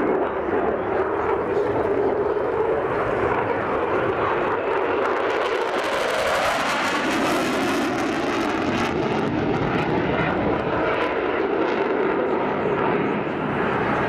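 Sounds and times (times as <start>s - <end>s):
jet flying past in afterburner: 0.0s - 14.0s.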